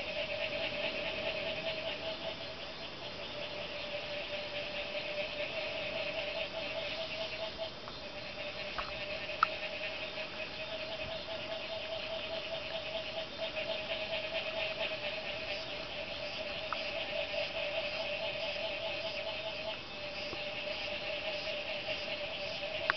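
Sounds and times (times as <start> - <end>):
frogs and insects trilling: 0.0 - 22.9.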